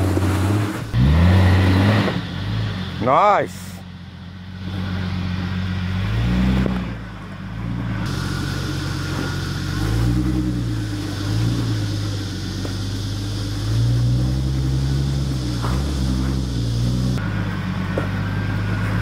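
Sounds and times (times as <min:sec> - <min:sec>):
engine revving under load: 0:00.0 - 0:03.7, 0:04.3 - 0:19.0.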